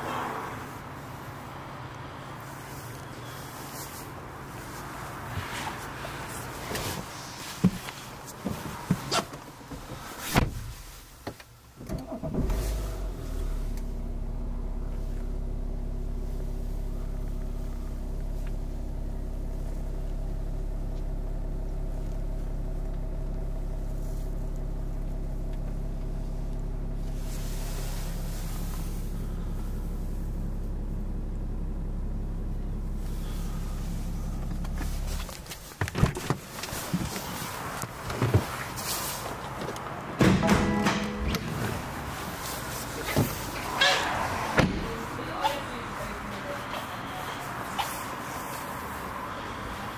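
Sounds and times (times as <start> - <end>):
car engine idling: 0.6 - 49.9.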